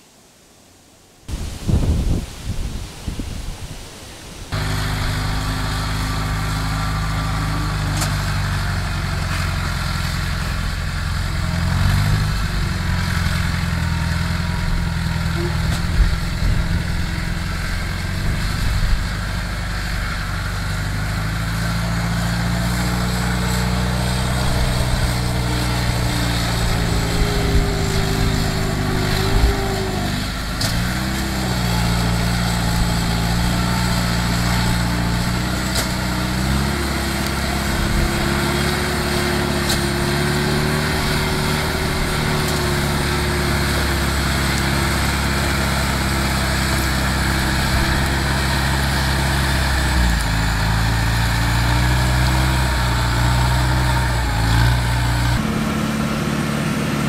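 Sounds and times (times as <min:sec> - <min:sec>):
harvester engine under load: 0:04.5 - 0:57.0.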